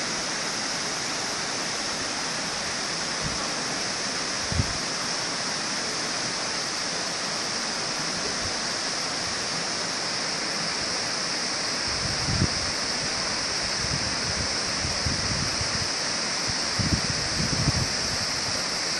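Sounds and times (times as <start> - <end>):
river water rushing over boulders: 0.0 - 18.9.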